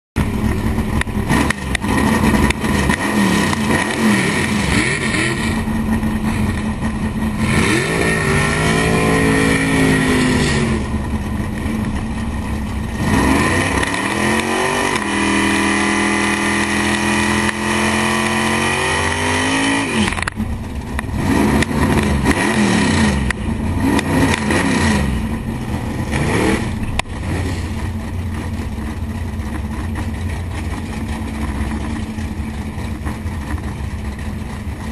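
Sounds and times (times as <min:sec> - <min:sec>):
car engine idling and revving: 0:00.2 - 0:34.9.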